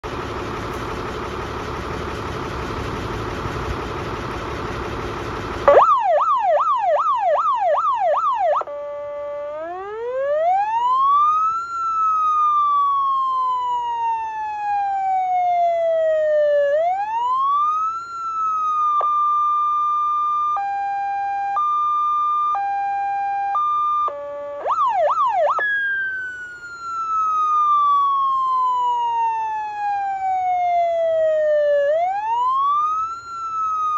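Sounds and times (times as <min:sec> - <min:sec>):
fire truck engine running: 0:00.0 - 0:33.9
siren wail: 0:05.6 - 0:33.9
siren yelp: 0:05.6 - 0:33.9
two-tone siren: 0:05.6 - 0:33.9.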